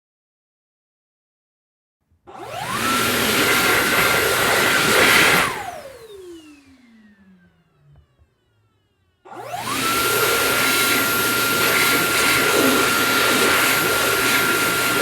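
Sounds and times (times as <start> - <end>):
hand dryer motor whine: 2.3 - 15.0.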